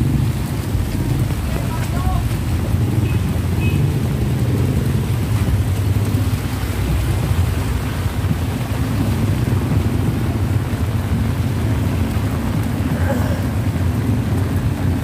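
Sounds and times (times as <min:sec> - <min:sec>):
heavy rain on street: 0:00.0 - 0:15.0
motorcycle tricycles: 0:00.0 - 0:15.0
vehicle engines idling: 0:00.0 - 0:15.0.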